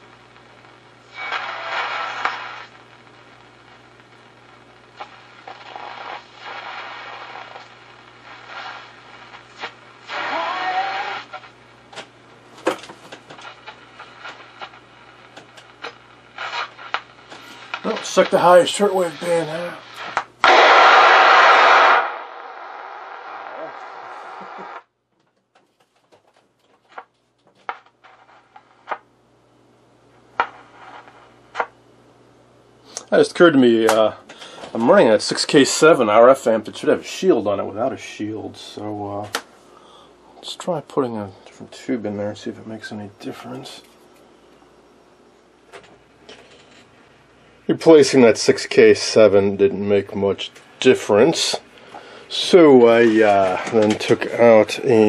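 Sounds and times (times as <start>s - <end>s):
radio noise and crackle: 0.0s - 24.9s, 26.7s - 29.1s, 29.9s - 32.1s, 32.8s - 55.0s
radio static hiss: 0.0s - 24.9s, 26.7s - 55.0s.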